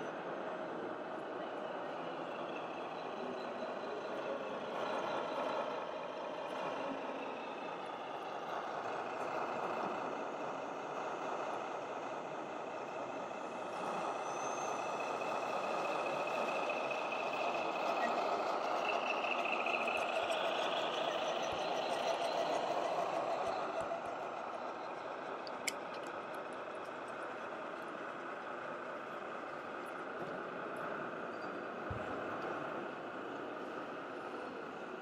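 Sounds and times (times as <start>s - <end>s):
truck engine sound effect: 0.2s - 35.0s.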